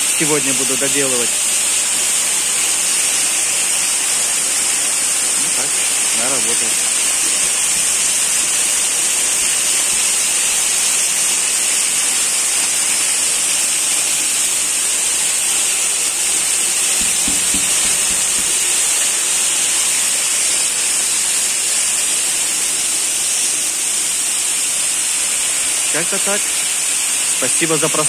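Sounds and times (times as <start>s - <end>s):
water pouring and splashing: 0.0s - 28.0s.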